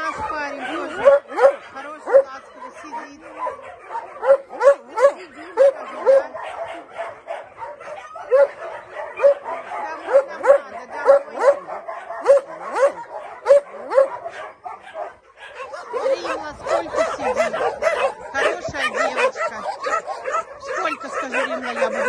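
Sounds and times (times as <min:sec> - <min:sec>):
dogs barking: 0:00.0 - 0:22.0.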